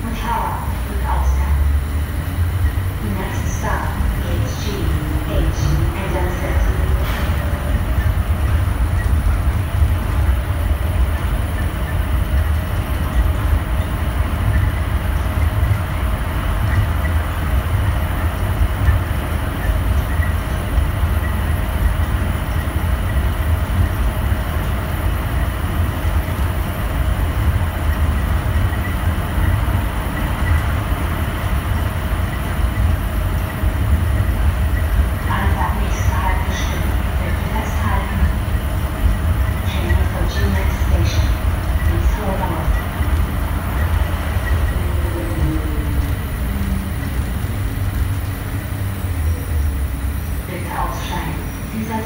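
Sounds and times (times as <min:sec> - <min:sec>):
train rumbling through tunnel: 0:00.0 - 0:52.0.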